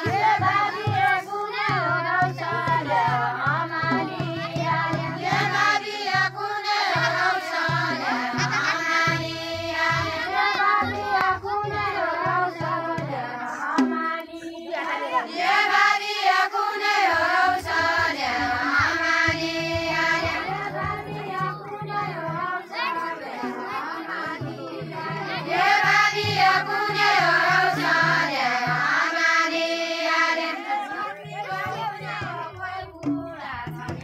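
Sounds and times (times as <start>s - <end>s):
women singing folk song: 0.0s - 34.0s.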